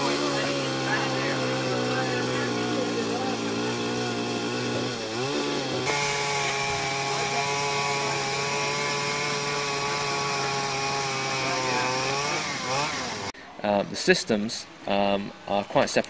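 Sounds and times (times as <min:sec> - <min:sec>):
small engine running: 0:00.0 - 0:13.4.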